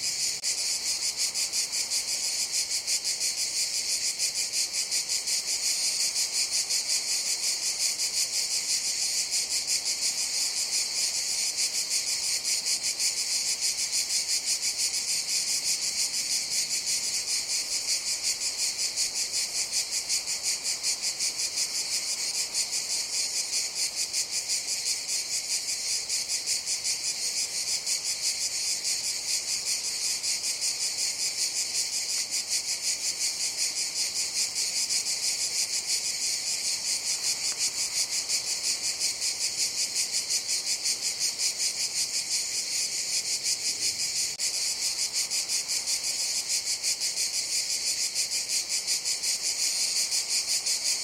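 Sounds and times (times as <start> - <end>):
cicadas singing: 0.0 - 51.0.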